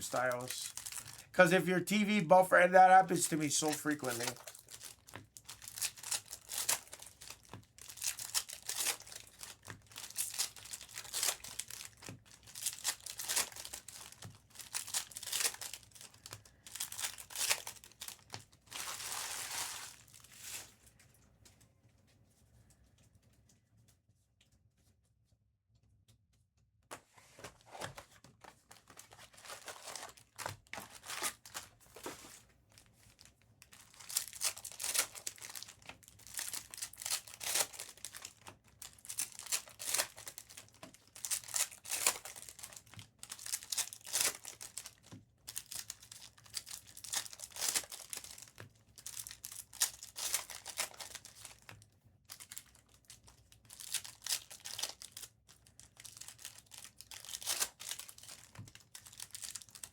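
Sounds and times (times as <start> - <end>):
plastic wrapping crinkling and tearing: 0.0 - 21.0, 27.6 - 59.9.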